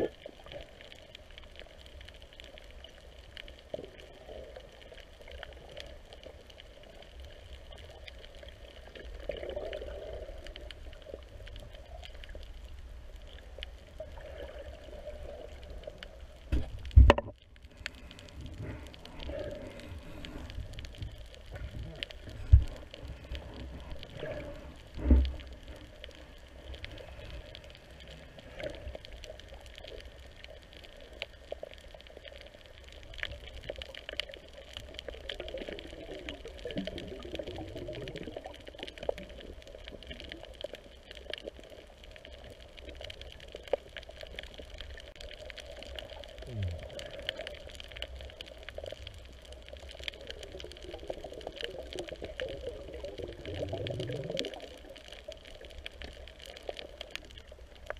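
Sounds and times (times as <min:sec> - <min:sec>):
faint clicks and crackles: 0:00.0 - 0:57.9
muffled underwater hiss: 0:00.0 - 0:57.9.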